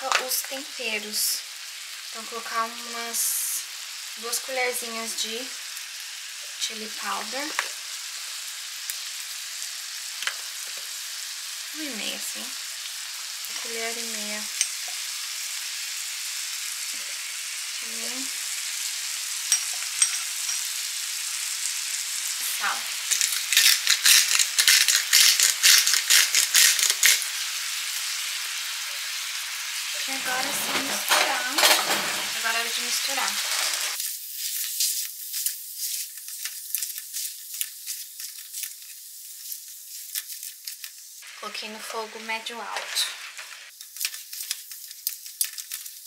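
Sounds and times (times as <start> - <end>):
meat sizzling in a frying pan: 0.0 - 46.0.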